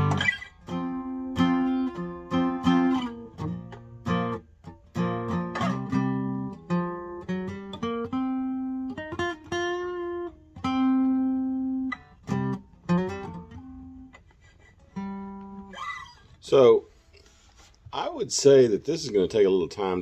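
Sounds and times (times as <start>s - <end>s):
acoustic guitar chords: 0.0s - 16.3s.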